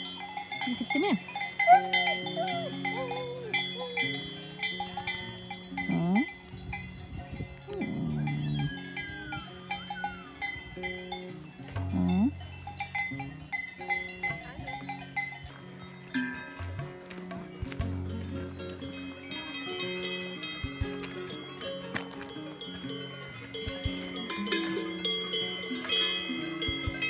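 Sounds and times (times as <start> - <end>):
livestock bells clanking: 0.0 - 27.0.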